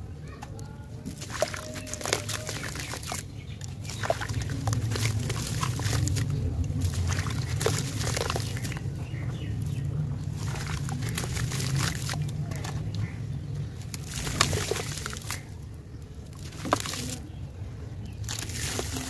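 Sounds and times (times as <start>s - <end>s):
wet charcoal squelching in water: 1.0s - 19.0s
steady low rumble: 2.8s - 19.0s.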